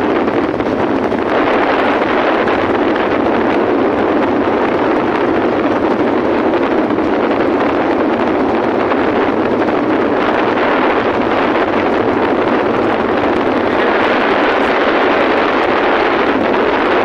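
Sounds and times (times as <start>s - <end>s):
road noise on wet asphalt: 0.0s - 17.0s
wind rush on microphone: 0.0s - 17.0s.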